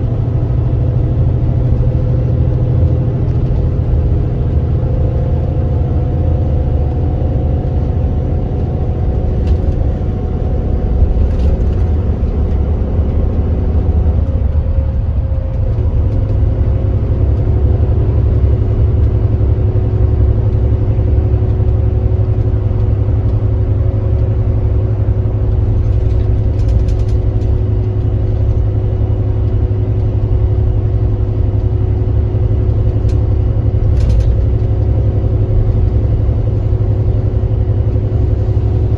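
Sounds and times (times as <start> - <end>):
diesel coach engine rumbling: 0.0 - 38.9.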